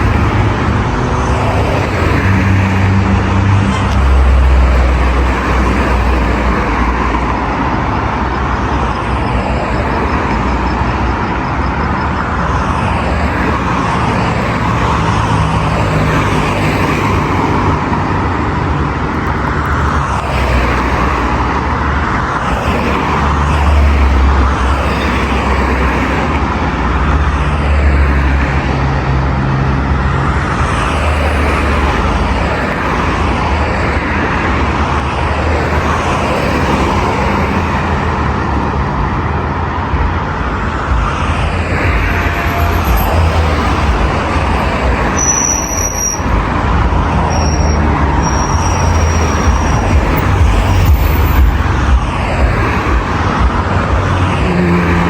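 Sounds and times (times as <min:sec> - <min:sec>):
dense road traffic rumble: 0:00.0 - 0:55.0.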